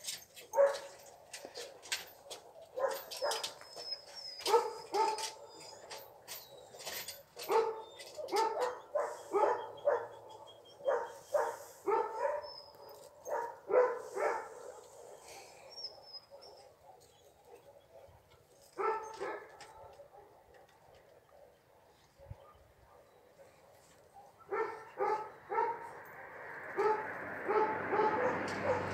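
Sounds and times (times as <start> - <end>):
dog barking: 0.5 - 1.0, 2.2 - 3.6, 4.4 - 5.6, 7.4 - 28.9.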